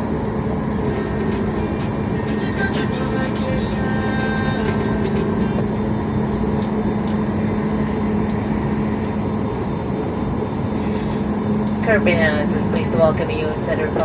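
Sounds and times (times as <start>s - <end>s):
airplane cabin rumble: 0.0s - 14.0s
constant low hum: 0.0s - 14.0s.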